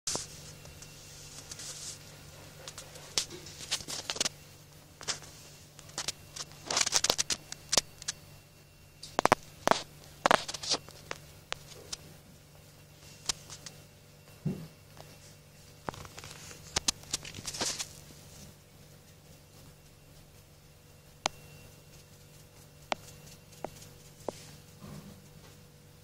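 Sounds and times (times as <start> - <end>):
faint steady hum: 0.1 - 26.0.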